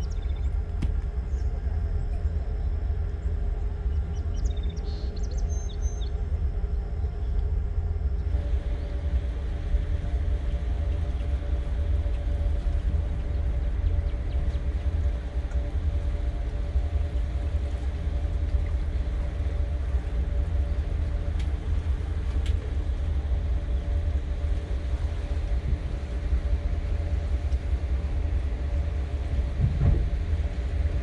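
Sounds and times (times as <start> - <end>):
boat engine low rumble: 0.0 - 31.0
faint hum: 0.0 - 31.0.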